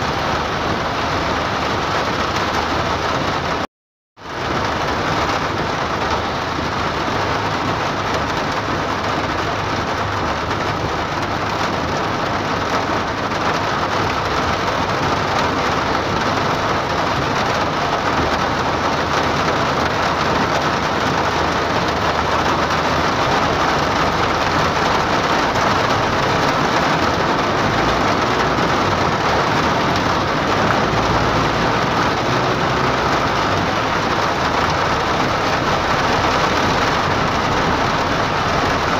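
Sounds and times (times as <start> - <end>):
heavy rain on car roof: 0.0 - 38.9
tyre and road noise: 0.0 - 38.9.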